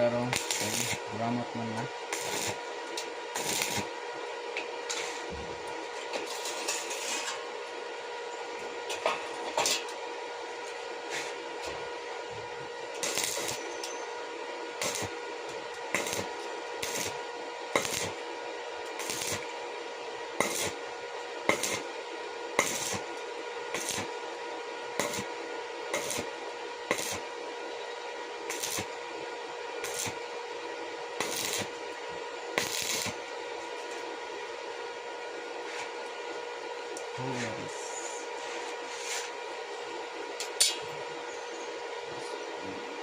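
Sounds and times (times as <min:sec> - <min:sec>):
steady electrical hum: 0:00.0 - 0:43.0.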